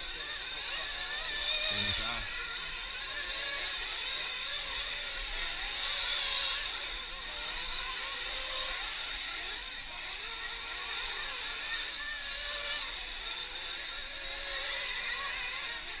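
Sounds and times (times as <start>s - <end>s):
rc truck engines buzzing: 0.0s - 16.0s.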